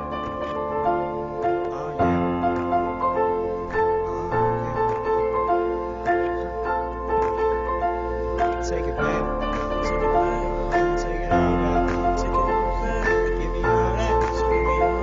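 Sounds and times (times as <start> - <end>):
piano melody over beat: 0.0 - 15.0.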